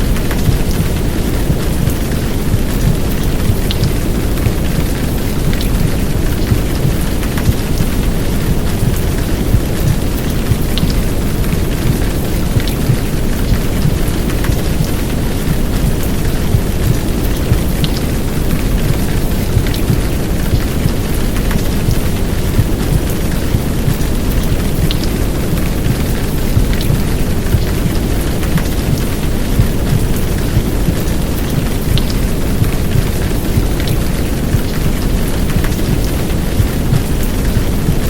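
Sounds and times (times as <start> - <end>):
heavy downpour: 0.0 - 38.0.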